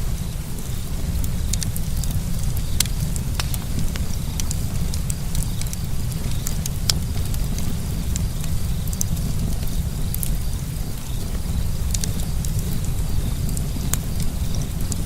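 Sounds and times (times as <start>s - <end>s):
campfire wood crackling and popping: 0.0s - 15.0s
fire low rumble: 0.0s - 15.0s.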